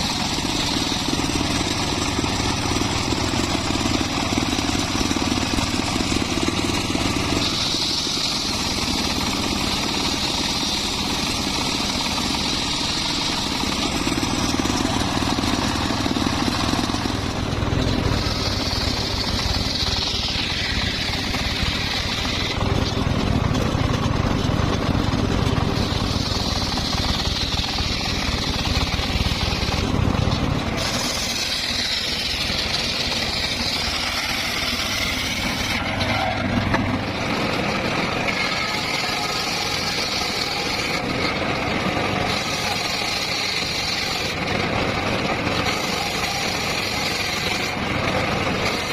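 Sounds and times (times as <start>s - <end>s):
circular saw motor hum: 0.0s - 48.9s
saw blade whining through wood: 0.0s - 48.9s.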